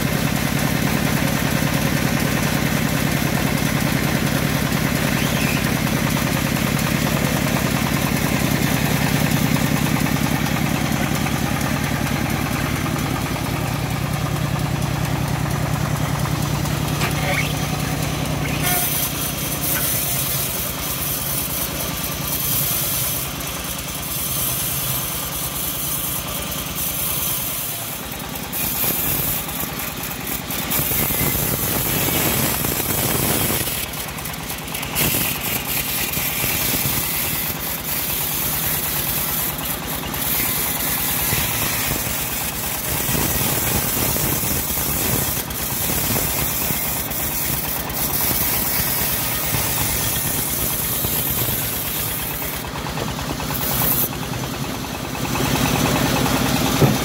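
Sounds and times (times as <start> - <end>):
bandsaw cutting log: 0.0 - 57.0
engine drone: 0.0 - 57.0.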